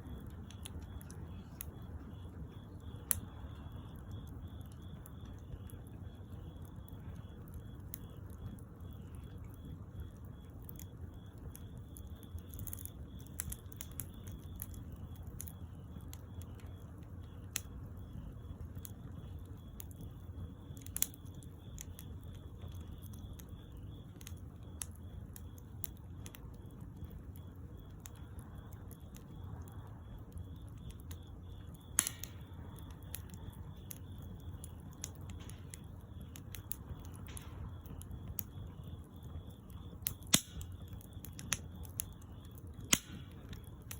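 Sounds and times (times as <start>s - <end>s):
sharp pops from fire: 0.0s - 43.9s
wood fire crackling: 0.0s - 43.9s.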